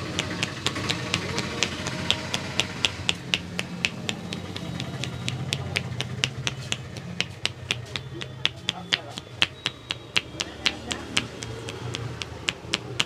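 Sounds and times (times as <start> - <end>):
hands clapping on head: 0.0 - 13.0.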